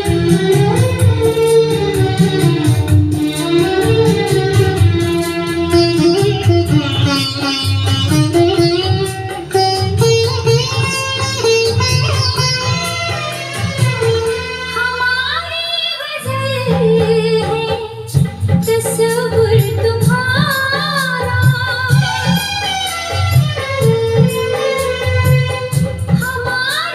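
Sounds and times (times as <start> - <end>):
song with singing and plucked strings: 0.0 - 26.9.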